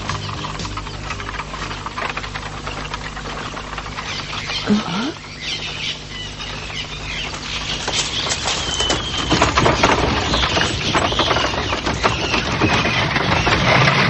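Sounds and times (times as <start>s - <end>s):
birds chirping: 0.0s - 14.0s
horse-drawn wagon clattering: 0.0s - 14.0s.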